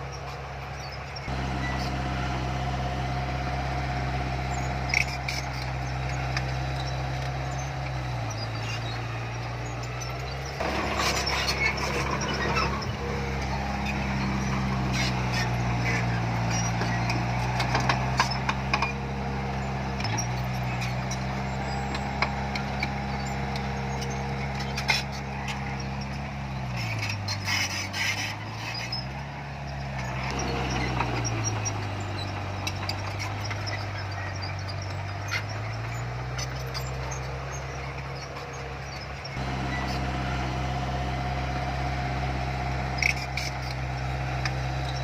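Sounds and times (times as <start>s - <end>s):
heavy diesel engine under load: 0.0s - 45.0s.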